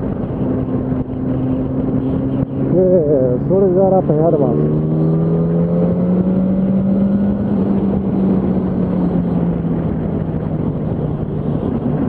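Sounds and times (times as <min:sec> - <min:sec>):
wind rush noise: 0:00.0 - 0:12.0.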